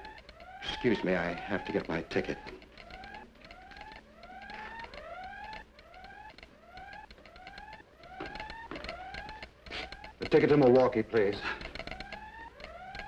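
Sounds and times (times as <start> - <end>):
wailing siren whoops: 0.0 - 13.0.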